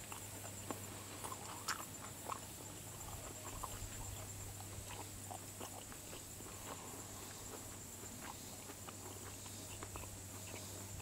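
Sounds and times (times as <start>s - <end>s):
chewing and wet mouth clicks: 0.0s - 11.0s.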